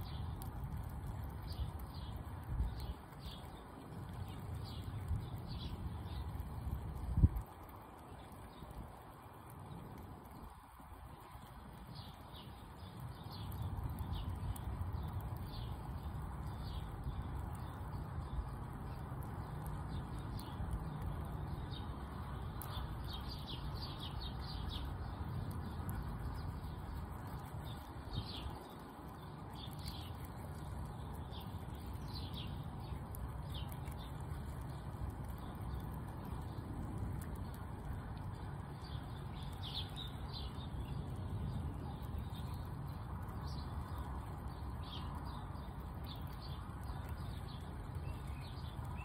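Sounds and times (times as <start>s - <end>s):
low steady rumble: 0.0s - 49.0s
small birds chirping: 0.0s - 49.0s.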